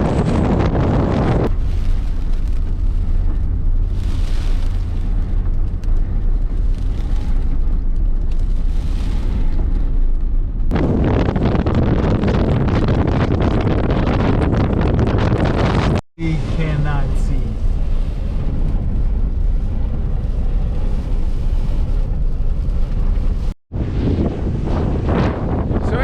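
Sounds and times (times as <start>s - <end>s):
wind gusts buffeting microphone: 0.0s - 26.0s.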